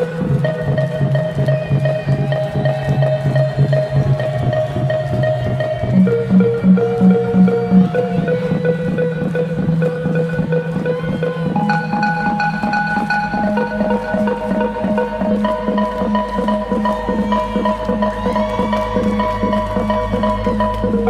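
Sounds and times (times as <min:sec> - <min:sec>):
background music with ticking rhythm: 0:00.0 - 0:21.0.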